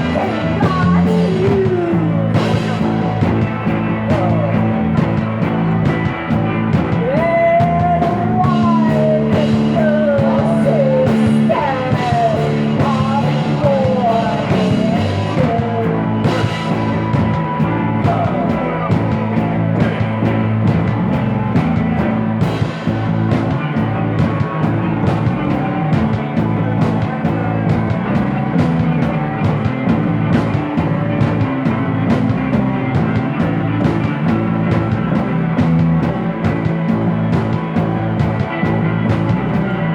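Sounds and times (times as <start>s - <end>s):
bending lead guitar line: 0.0s - 39.9s
rock band music: 0.0s - 39.9s.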